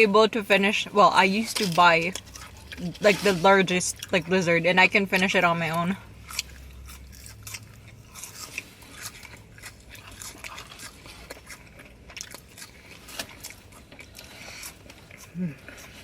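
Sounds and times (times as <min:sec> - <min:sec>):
person chewing with crunches: 0:01.2 - 0:16.0.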